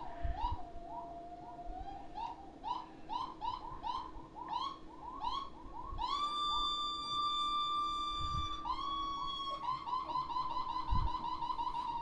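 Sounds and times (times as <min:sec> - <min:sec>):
electric guitar seagull cries: 0:00.0 - 0:12.0.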